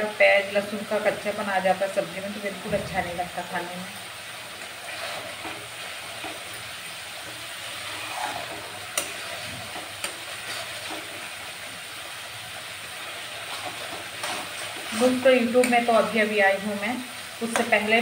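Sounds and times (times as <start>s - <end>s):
masala sizzling in oil: 0.0s - 18.0s.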